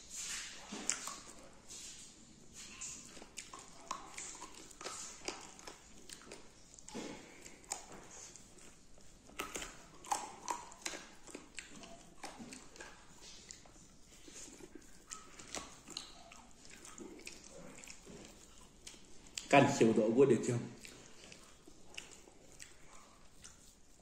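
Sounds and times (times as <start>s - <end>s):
person chewing and lip smacking: 0.1s - 24.0s.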